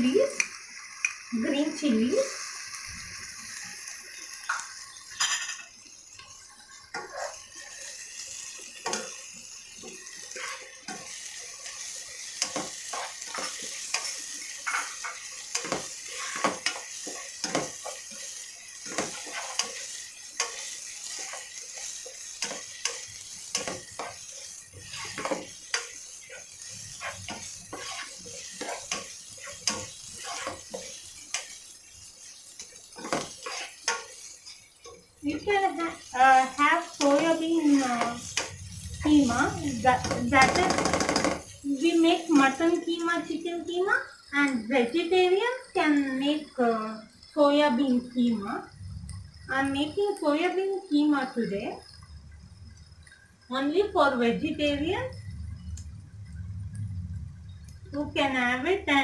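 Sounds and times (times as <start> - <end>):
vegetables sizzling in a pan: 0.0 - 59.0.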